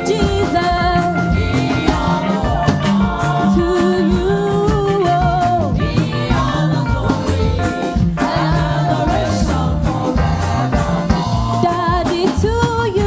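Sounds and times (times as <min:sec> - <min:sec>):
gospel band playing: 0:00.0 - 0:13.0
people singing: 0:00.0 - 0:13.0.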